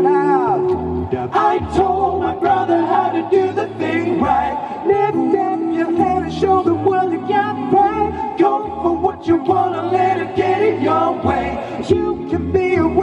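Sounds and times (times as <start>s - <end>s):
male a cappella group singing: 0.0s - 13.0s.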